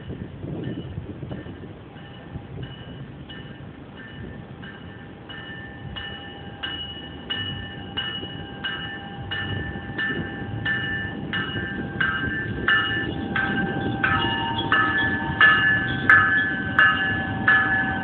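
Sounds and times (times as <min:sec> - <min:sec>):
train rumble: 0:00.0 - 0:18.0
train warning bell ringing: 0:00.0 - 0:18.0.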